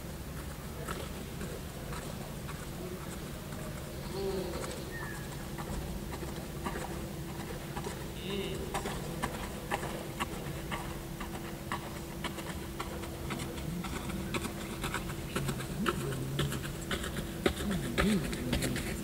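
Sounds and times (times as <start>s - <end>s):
faint steady hum: 0.0s - 19.0s
horse hooves walking on gravel: 0.3s - 19.0s.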